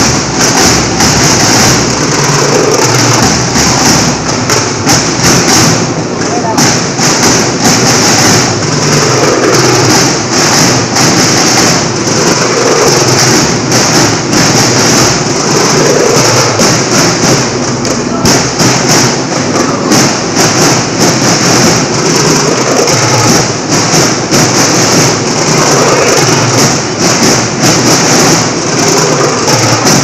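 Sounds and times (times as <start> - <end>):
loud snare drums beating: 0.0 - 30.0.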